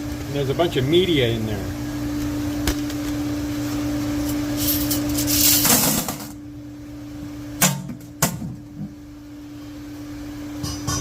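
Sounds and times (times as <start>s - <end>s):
vibratory tumbler humming and hissing: 0.0s - 11.0s.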